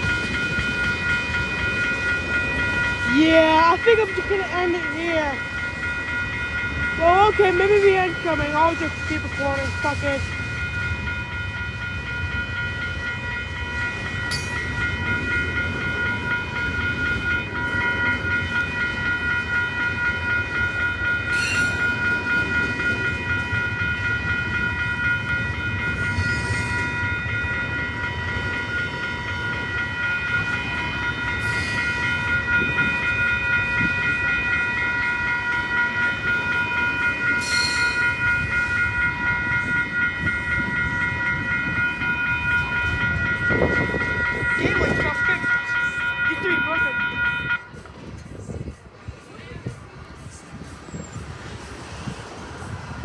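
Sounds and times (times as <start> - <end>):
crossing bell ringing: 0.0 - 53.0
train rumbling past: 0.0 - 53.0.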